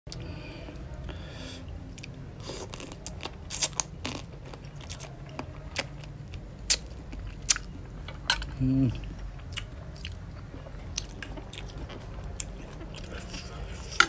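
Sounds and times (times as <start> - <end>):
wet chewing: 1.9 - 14.0.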